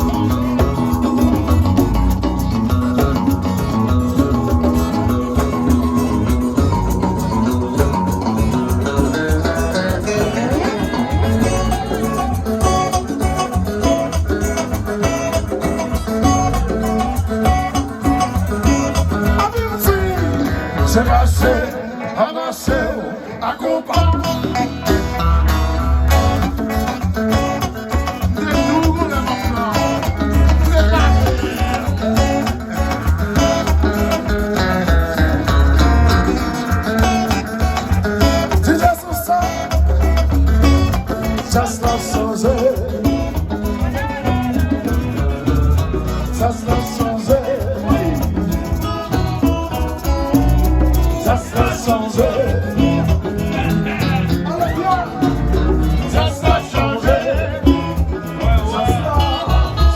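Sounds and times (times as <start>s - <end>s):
low bass beat: 0.0s - 21.6s, 24.0s - 59.9s
light percussion: 0.0s - 21.8s, 23.9s - 59.9s
plucked guitar: 0.0s - 59.9s.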